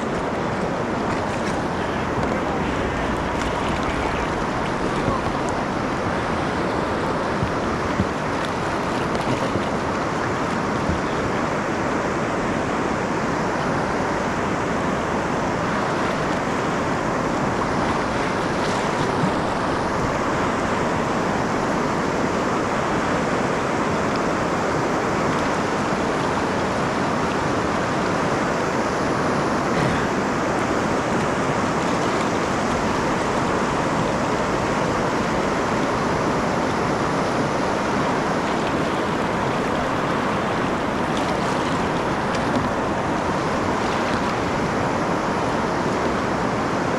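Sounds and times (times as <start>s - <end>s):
whitewater rushing: 0.0s - 46.9s.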